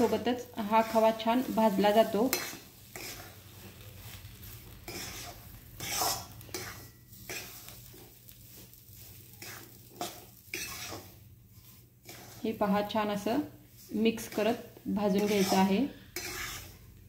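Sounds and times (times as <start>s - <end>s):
metal spatula scraping pan: 0.0s - 17.0s.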